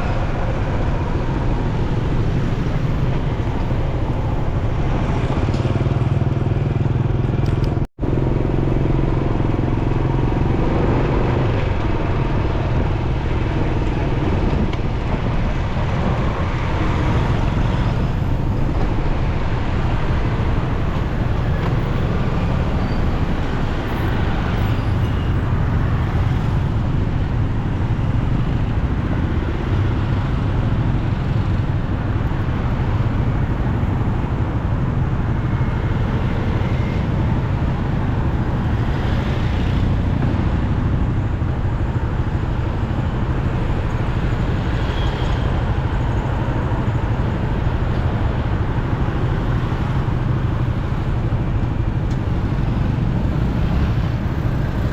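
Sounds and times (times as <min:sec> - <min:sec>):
road noise: 0:00.0 - 0:54.9
wind noise: 0:00.0 - 0:54.9
motorcycle engine riding: 0:00.1 - 0:54.9.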